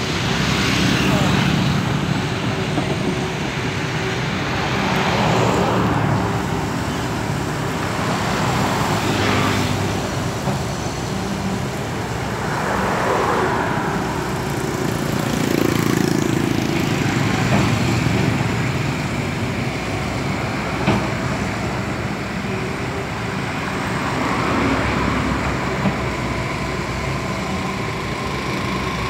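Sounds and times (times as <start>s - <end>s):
excavator diesel engine running: 0.0s - 29.0s
traffic swishing past: 0.0s - 29.0s.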